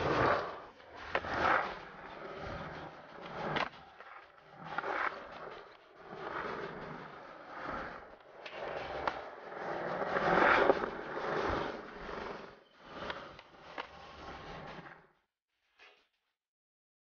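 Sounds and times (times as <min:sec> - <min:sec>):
skateboard clacks: 0:00.0 - 0:15.0
skateboard scraping ledge: 0:00.0 - 0:15.1
skateboard wheels rolling: 0:00.0 - 0:15.2.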